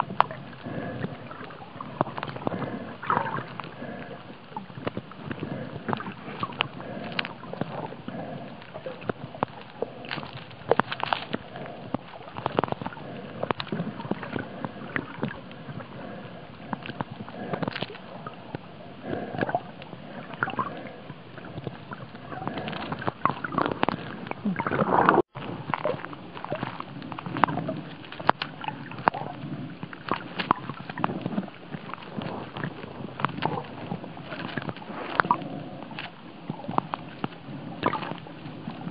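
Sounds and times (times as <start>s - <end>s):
underwater sloshing and gurgling: 0.0s - 38.9s.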